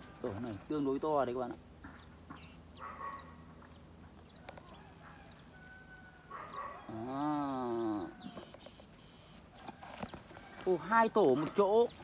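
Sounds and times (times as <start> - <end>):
faint high chirps: 0.7 - 12.0
drawn-out animal call: 1.8 - 12.0.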